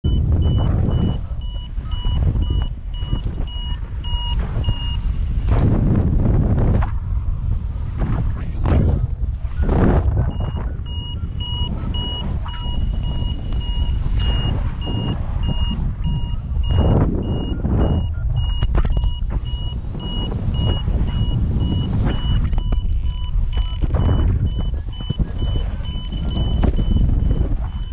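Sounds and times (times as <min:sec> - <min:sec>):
variometer short high beeps: 0:00.0 - 0:05.1, 0:09.5 - 0:27.9
wind rush on microphone: 0:00.0 - 0:27.9.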